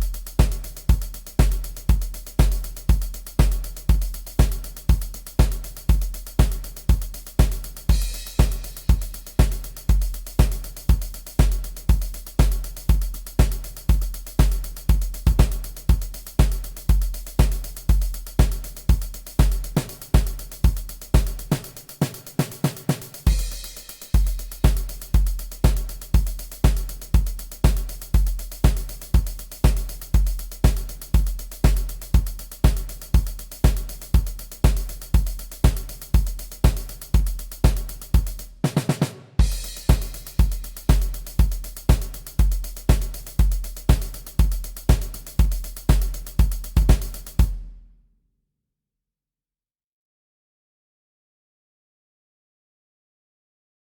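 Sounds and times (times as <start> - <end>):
electronic drum kit rock beat: 0.0 - 47.7.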